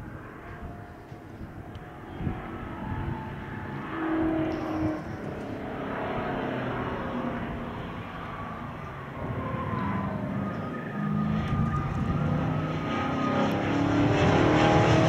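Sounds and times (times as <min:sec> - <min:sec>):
car engine running hard: 0:01.6 - 0:15.0.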